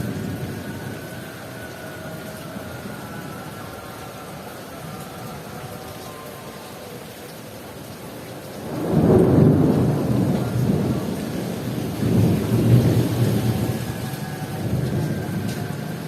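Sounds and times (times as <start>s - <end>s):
thunder rumbling: 0.0s - 5.6s, 8.5s - 16.0s
heavy rain falling: 0.0s - 16.0s.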